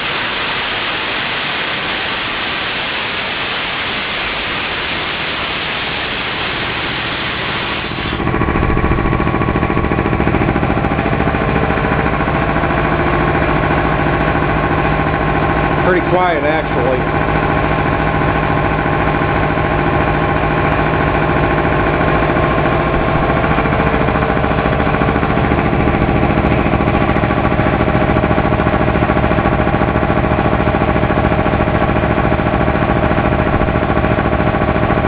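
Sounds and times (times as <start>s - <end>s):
air compressor running: 0.0s - 35.0s.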